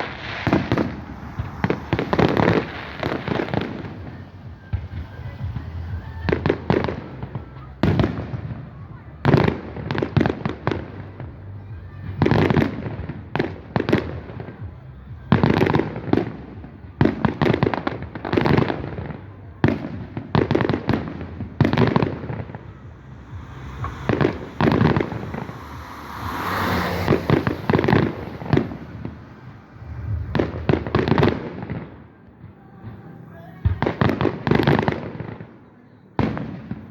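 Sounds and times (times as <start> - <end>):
fireworks crackling and hissing: 0.0 - 36.9.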